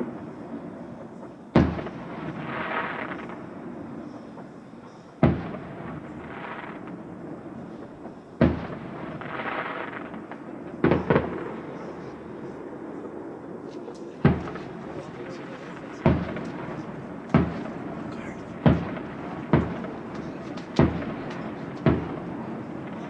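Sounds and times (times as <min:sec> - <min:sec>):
fireworks bursting with bangs: 0:00.0 - 0:23.0.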